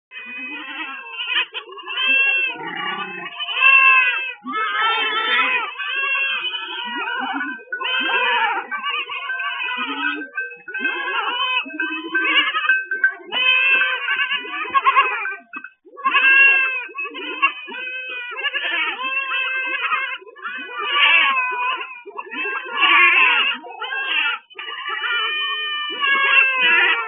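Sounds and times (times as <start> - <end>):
goats bleating: 0.1 - 27.0.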